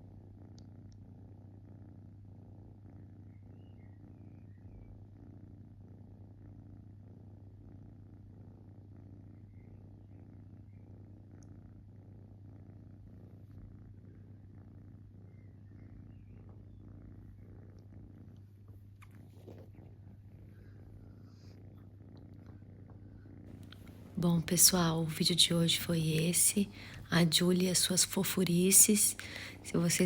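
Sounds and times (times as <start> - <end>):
kitten purring: 0.0 - 30.0.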